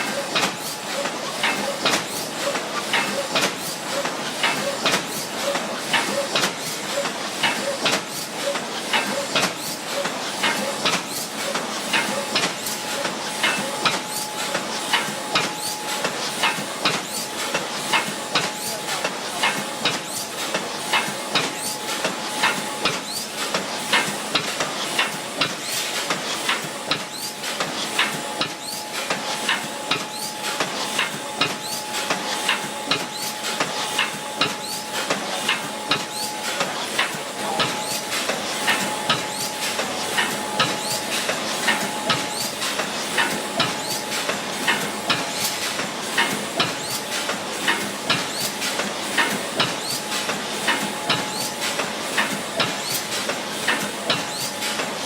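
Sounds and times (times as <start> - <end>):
machine clacking: 0.0 - 55.0
machine hissing: 0.0 - 55.0.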